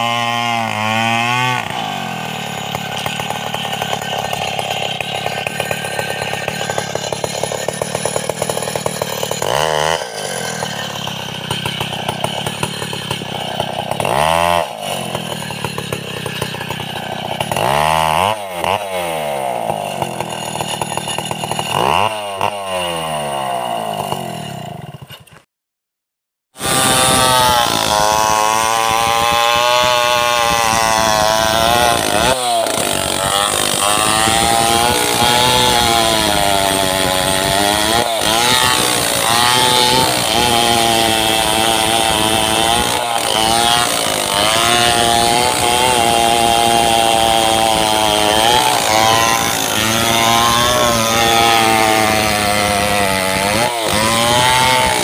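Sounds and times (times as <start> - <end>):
chainsaw cutting a log: 0.0 - 25.4, 26.6 - 55.0.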